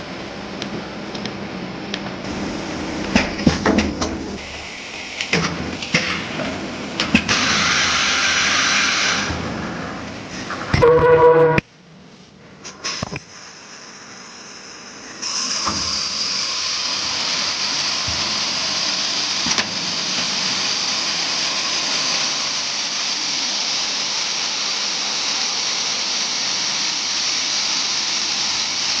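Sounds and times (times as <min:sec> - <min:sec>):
welding machine hissing: 0:02.2 - 0:09.4, 0:12.7 - 0:29.0.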